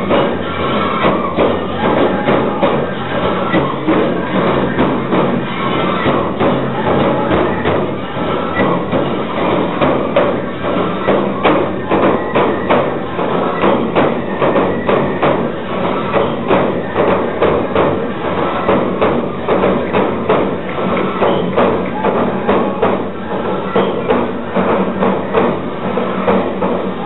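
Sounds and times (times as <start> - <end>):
large drum beating rhythm: 0.0 - 27.0
parade crowd noise: 0.0 - 27.0.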